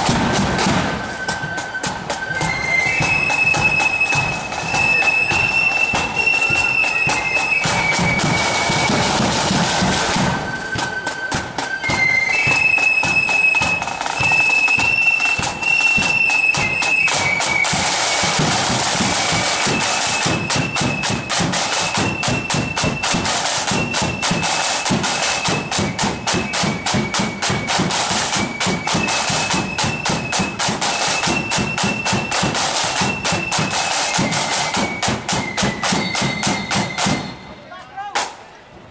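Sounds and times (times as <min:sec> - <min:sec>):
rapid side drum strokes: 0:00.0 - 0:37.4
flutes playing melody: 0:00.0 - 0:38.2.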